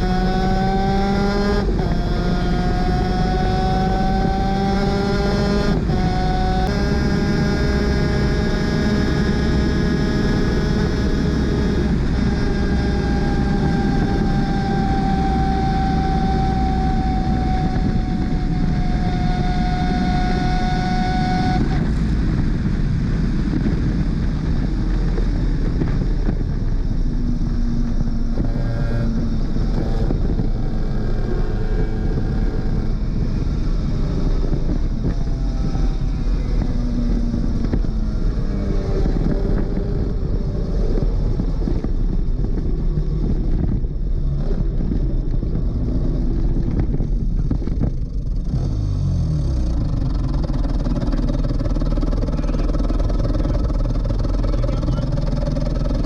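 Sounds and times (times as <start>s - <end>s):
kart engine running hard: 0.0s - 56.0s
wind and road noise: 0.0s - 56.0s.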